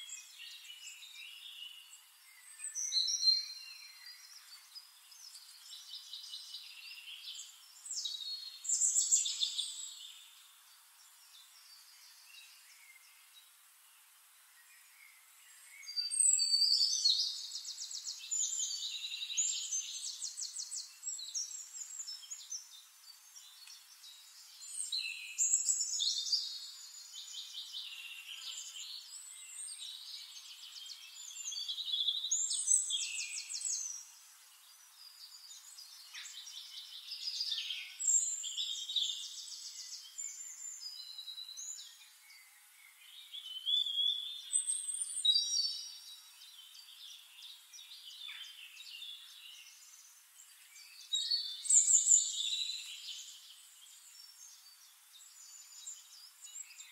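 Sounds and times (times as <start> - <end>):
songbirds trilling and chirping: 0.0 - 56.9.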